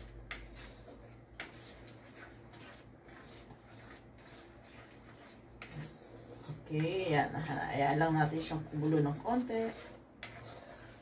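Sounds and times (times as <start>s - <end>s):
wooden spoon scraping a wok: 0.0s - 11.0s.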